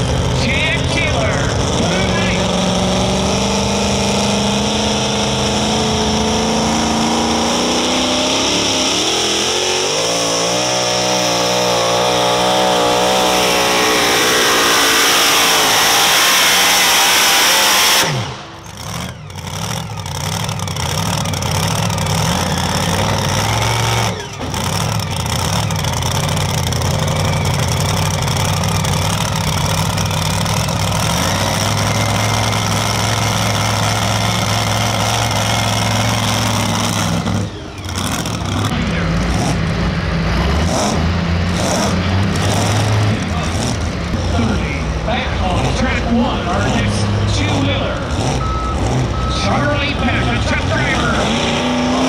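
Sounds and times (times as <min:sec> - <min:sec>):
truck engine at full throttle: 0:00.0 - 0:52.0.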